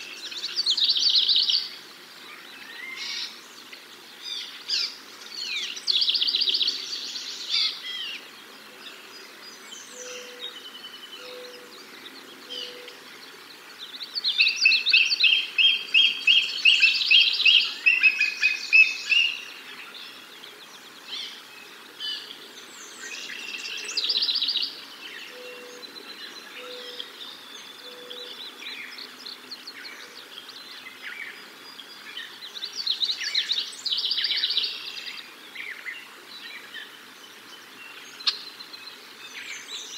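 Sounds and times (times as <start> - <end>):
birds chirping trills: 0.0 - 39.9.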